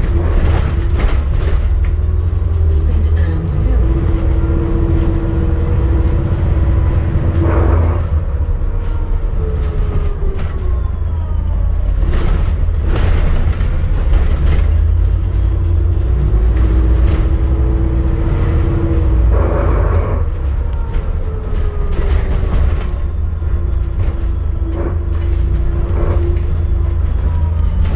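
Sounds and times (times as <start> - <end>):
bus interior rumble and whine: 0.0 - 27.9.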